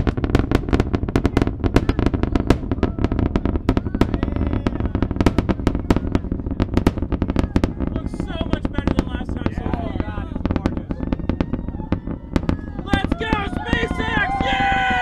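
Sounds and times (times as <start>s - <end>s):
rocket engines rumbling and crackling: 0.0s - 15.0s.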